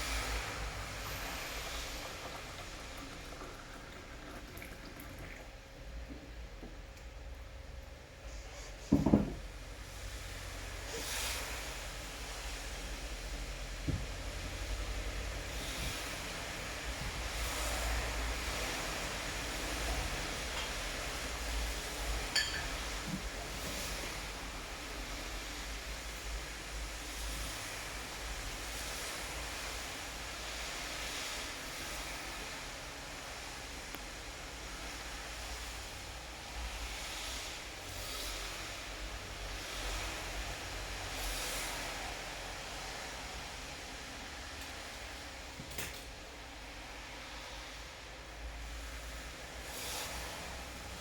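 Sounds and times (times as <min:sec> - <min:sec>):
rainfall hissing: 0:00.0 - 0:04.8, 0:09.8 - 0:45.5, 0:46.4 - 0:51.0.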